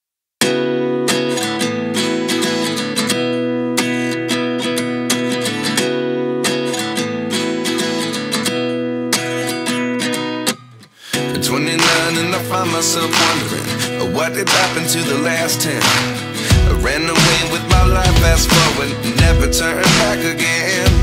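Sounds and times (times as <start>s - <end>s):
strummed acoustic guitar music: 0.4s - 21.0s.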